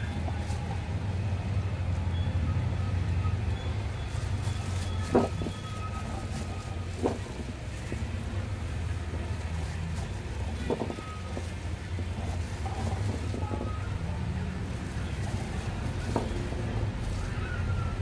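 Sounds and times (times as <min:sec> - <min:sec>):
low rumble of street traffic: 0:00.0 - 0:18.0.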